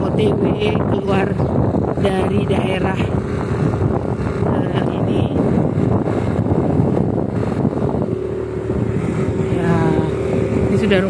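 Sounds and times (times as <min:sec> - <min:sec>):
motorcycle engine drone: 0:00.0 - 0:11.0
wind buffeting microphone: 0:00.0 - 0:11.0.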